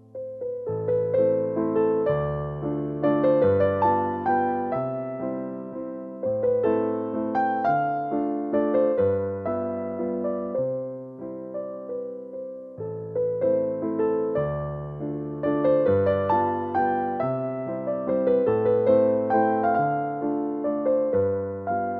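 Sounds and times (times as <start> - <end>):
gentle keyboard melody: 0.0 - 21.9.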